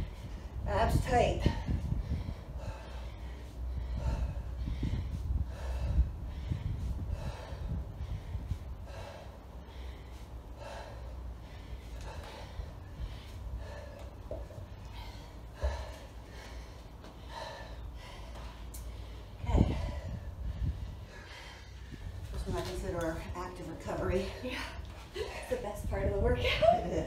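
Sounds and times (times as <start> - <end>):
heavy breathing with forceful exhalations: 0.0 - 27.0.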